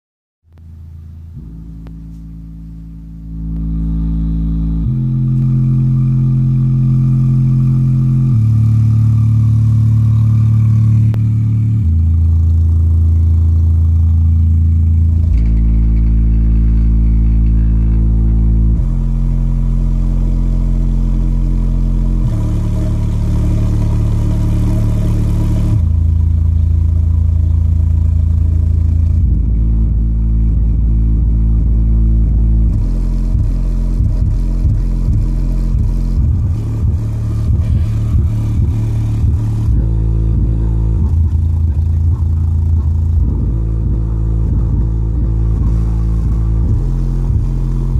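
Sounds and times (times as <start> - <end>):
deep bass from subwoofer: 0.4 - 47.9.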